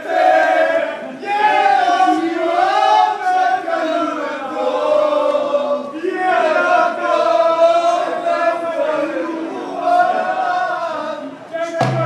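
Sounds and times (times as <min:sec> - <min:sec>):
men singing and chanting: 0:00.0 - 0:12.0.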